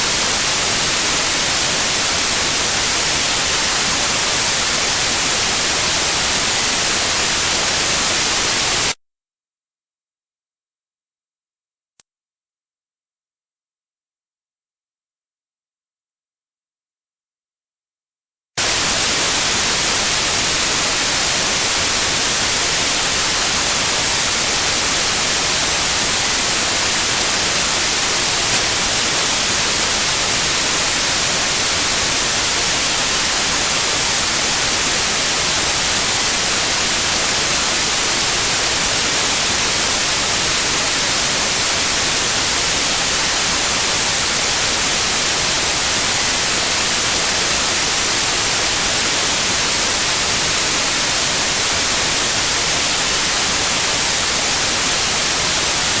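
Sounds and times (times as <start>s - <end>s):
white noise hiss: 0.0s - 9.0s, 18.6s - 56.0s
high pure tone: 0.0s - 9.1s, 18.6s - 56.0s.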